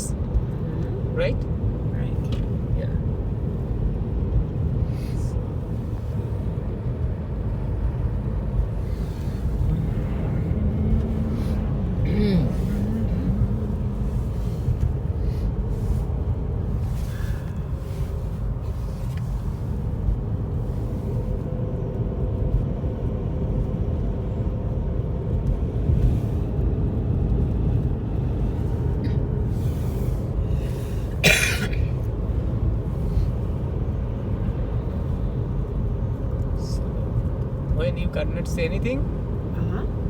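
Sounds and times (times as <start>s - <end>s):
road and engine rumble in car: 0.0s - 40.0s.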